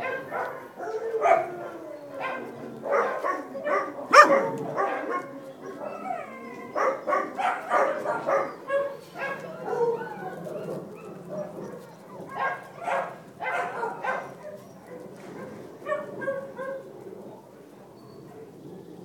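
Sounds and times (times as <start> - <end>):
puppies yapping and whining: 0.0 - 16.8.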